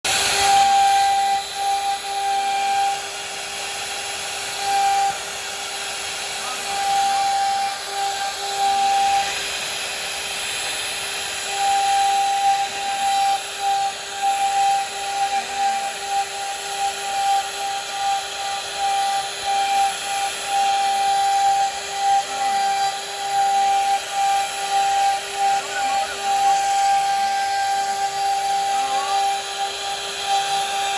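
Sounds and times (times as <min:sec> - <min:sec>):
router bit cutting wood: 0:00.0 - 0:30.9.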